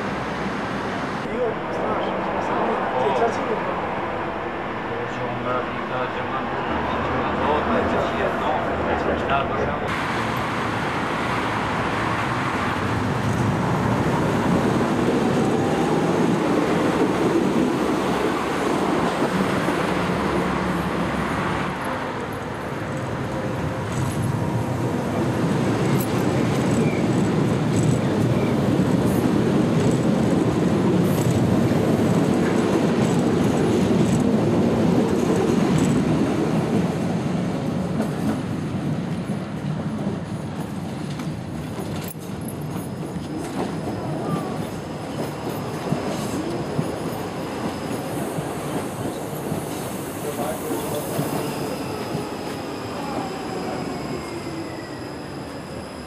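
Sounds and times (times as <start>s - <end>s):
trains rumbling on rails: 0.0s - 56.0s.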